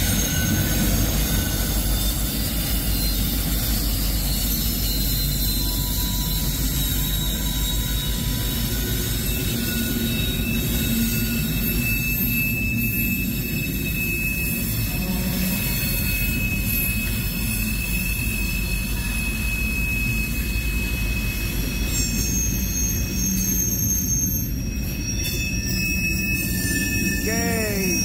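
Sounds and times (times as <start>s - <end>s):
freight train rumbling on rails: 0.0s - 28.0s
high-pitched wheel squeal: 0.0s - 28.0s.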